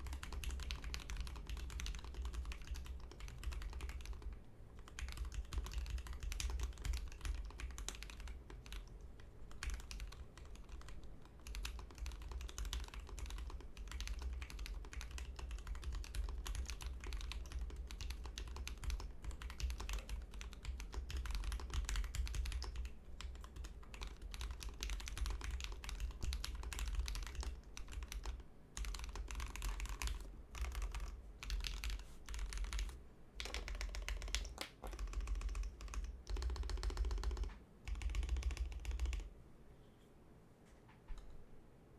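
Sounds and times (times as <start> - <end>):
mechanical keyboard typing: 0.0 - 39.3.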